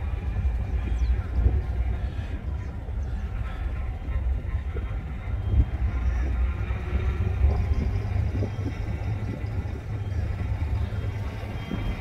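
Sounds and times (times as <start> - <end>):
vehicle rumbling slowly: 0.0 - 12.0.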